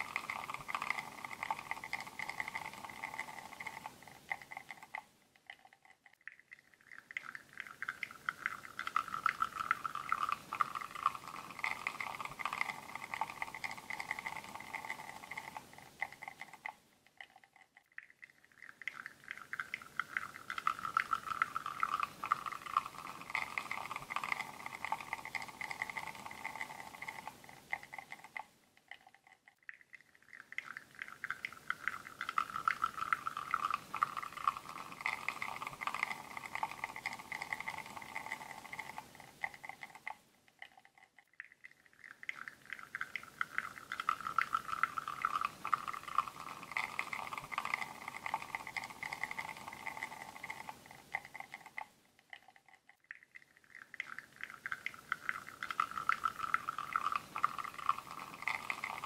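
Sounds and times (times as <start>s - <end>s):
espresso trickling into cup: 0.0s - 16.8s, 18.6s - 28.5s, 30.3s - 40.8s, 42.0s - 51.9s, 53.7s - 59.0s
faint hum: 0.0s - 52.4s.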